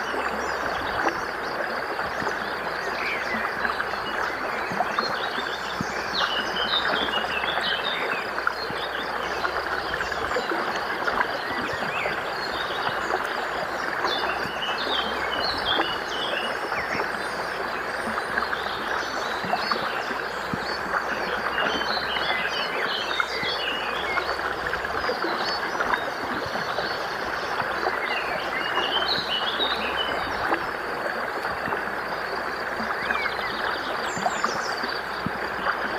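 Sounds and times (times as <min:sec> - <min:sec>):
stream water running: 0:00.0 - 0:35.9.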